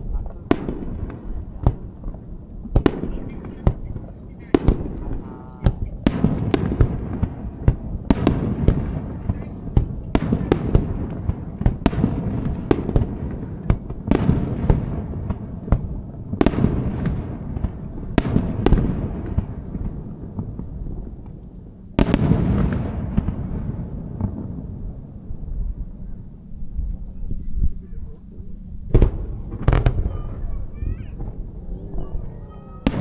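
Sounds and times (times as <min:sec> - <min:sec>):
fireworks bursting with rumble: 0:00.0 - 0:33.0.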